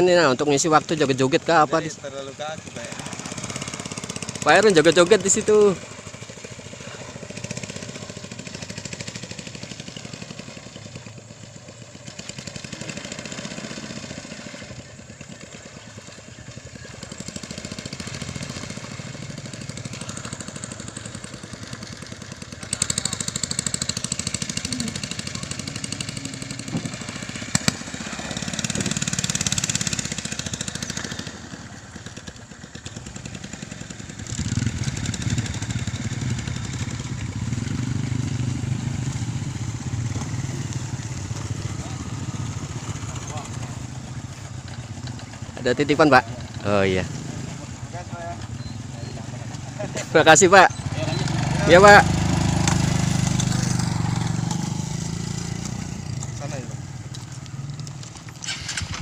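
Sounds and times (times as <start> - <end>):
small motor engines running: 0.5 - 59.0.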